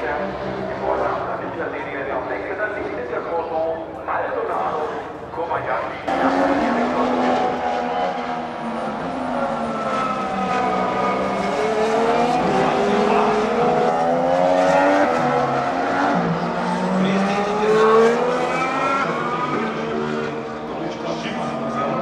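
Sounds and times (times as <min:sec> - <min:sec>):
racing car engines revving: 0:00.0 - 0:22.0.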